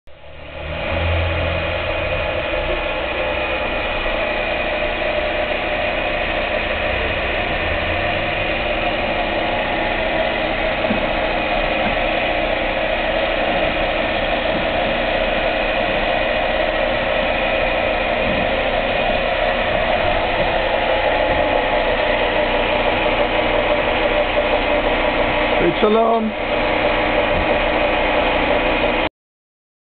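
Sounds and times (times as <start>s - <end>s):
quilting machine whirring: 0.2s - 29.1s.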